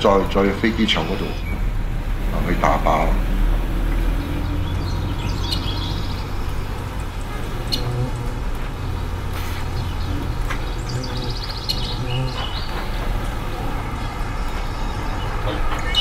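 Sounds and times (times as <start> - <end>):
high chirping: 0.0 - 1.8, 2.4 - 16.0
bus engine rumble: 0.0 - 16.0.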